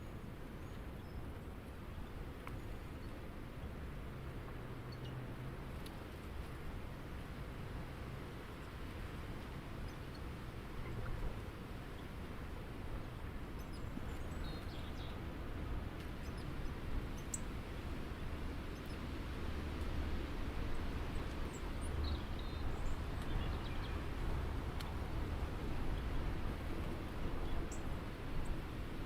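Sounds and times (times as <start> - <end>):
low outdoor rumble: 0.3 - 29.0.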